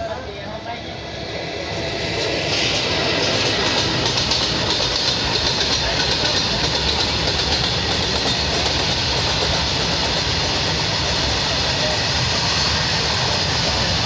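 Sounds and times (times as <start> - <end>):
train wheels clickety-clack on track: 1.1 - 14.0.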